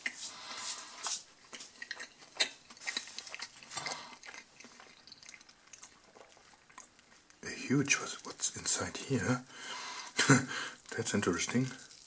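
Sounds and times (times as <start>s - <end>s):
chewing crunchy snack: 0.0s - 12.0s.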